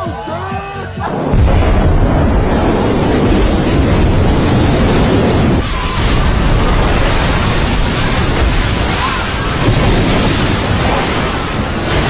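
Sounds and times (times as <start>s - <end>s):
sea surf: 1.1s - 12.0s.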